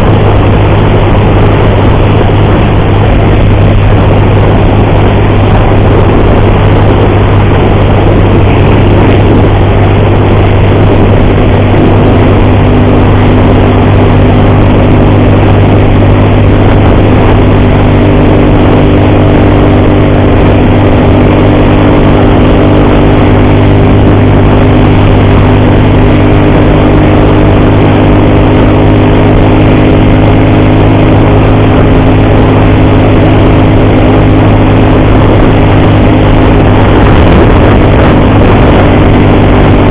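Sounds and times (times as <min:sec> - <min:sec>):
loud rushing noise: 0:00.0 - 0:39.9
motorcycle engine running: 0:00.0 - 0:39.9
steady humming tone: 0:00.0 - 0:39.9.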